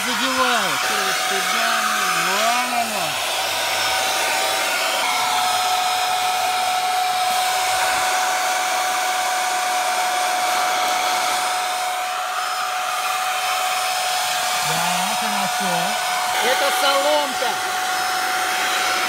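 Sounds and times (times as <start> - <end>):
vacuum motor whine: 0.0 - 19.0.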